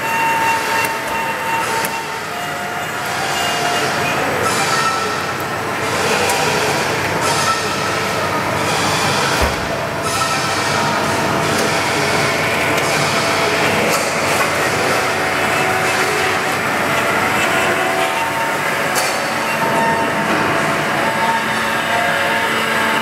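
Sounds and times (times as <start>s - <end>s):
band saw running: 0.0s - 23.0s.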